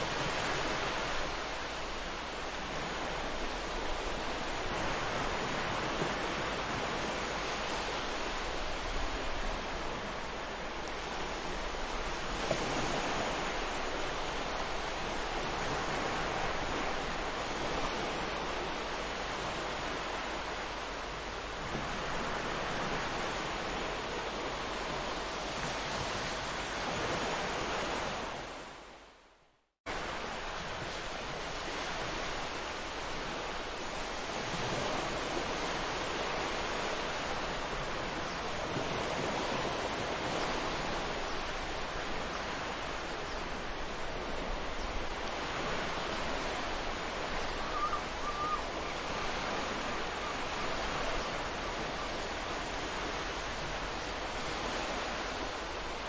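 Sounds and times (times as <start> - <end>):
sea surf washing onto beach: 0.0 - 28.8, 29.9 - 56.0.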